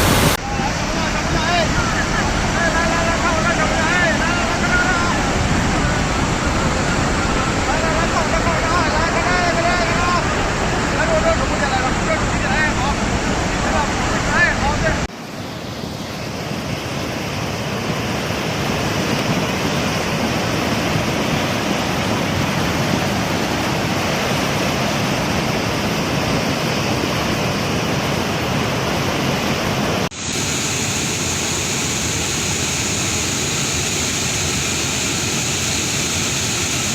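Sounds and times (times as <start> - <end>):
rushing water noise: 0.0 - 36.9.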